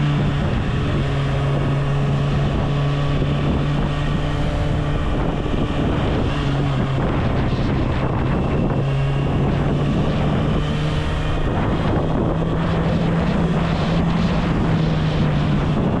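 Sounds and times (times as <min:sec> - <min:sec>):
motorcycle engine cruising: 0:00.0 - 0:16.0
wind noise on microphone: 0:00.0 - 0:16.0.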